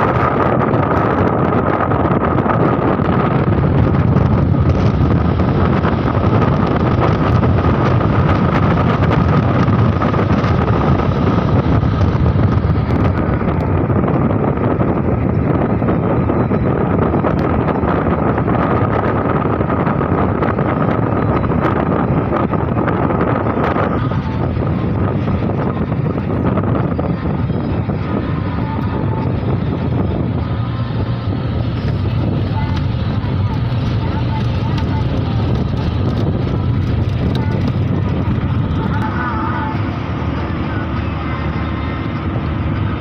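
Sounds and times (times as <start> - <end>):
vehicle road and engine noise: 0.0 - 43.0
wind buffeting microphone: 0.0 - 43.0.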